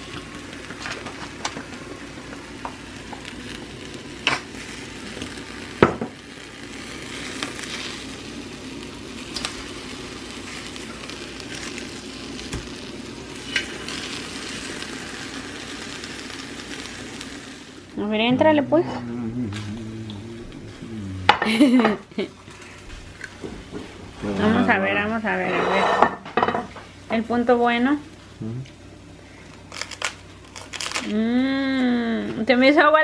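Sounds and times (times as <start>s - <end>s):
vegetables sizzling: 0.0s - 33.0s.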